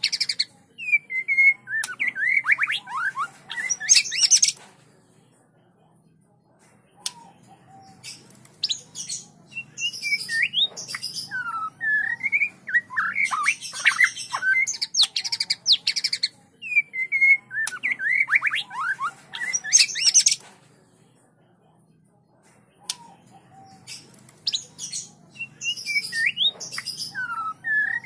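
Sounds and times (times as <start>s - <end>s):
birds whistling song: 0.0s - 4.6s, 7.0s - 20.4s, 22.9s - 28.0s.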